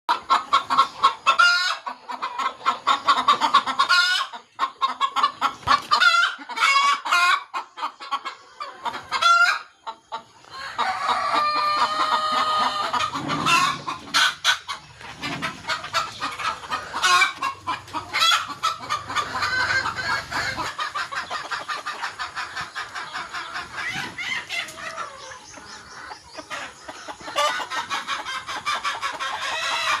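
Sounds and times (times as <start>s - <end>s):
chickens clucking: 0.1s - 30.0s.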